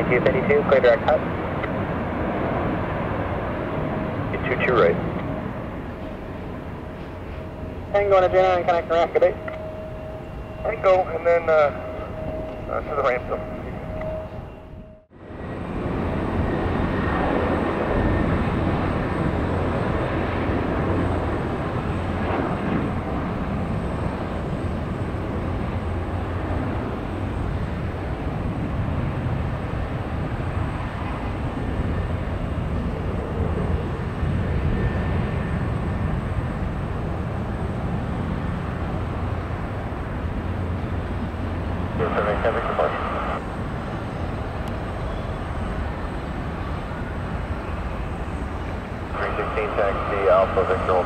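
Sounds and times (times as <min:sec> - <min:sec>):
jet engines rushing: 0:00.0 - 0:51.0
faint high whine: 0:03.0 - 0:51.0.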